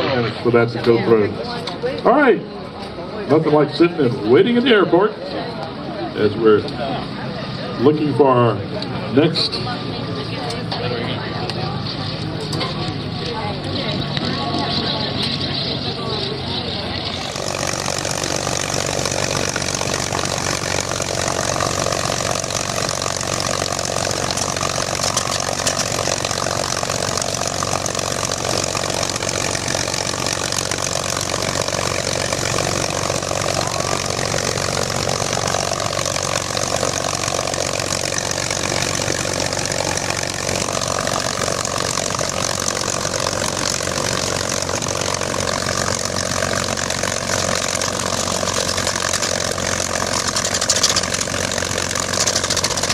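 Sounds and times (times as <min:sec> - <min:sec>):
aircraft engine idling: 0:00.0 - 0:52.9.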